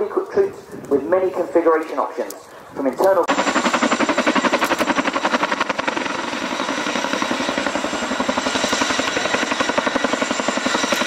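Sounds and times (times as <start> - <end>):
helicopter rotors beating: 0.0 - 11.0.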